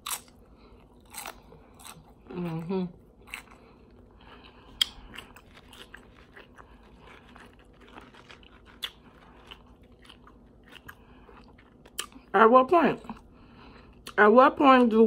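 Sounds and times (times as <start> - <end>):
person chewing tortilla chips: 0.0 - 12.3.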